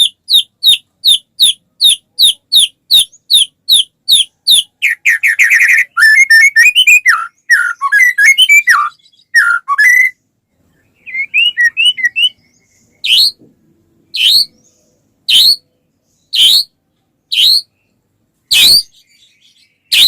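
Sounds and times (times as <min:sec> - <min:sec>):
bird singing whistled notes: 0:00.0 - 0:13.4, 0:14.0 - 0:20.0.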